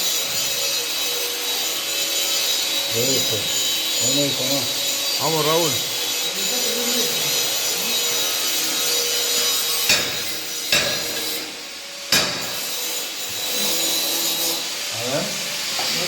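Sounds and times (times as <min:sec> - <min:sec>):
welding arc crackling and hissing: 0:00.0 - 0:16.0.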